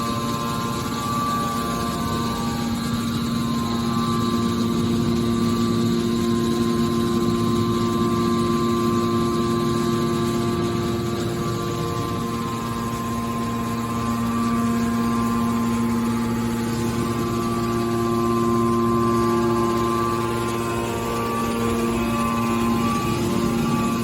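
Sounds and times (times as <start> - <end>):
hydraulic power unit tones: 0.0 - 24.0.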